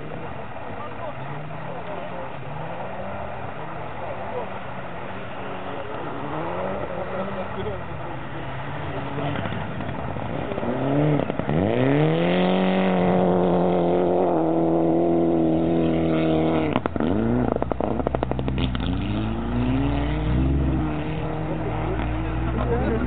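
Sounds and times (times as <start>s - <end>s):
engine crackles: 0.0s - 23.0s
rally car engine revving: 0.0s - 23.0s.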